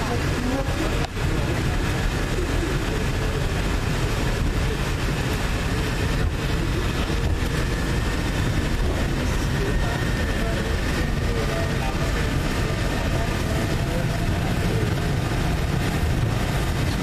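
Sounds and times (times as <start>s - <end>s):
tram car rumbling on rails: 0.0s - 17.0s.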